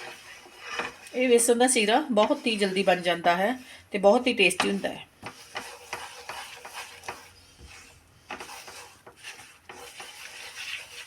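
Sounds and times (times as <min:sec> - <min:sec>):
utensil scraping frying pan: 0:00.0 - 0:03.7, 0:04.4 - 0:11.0.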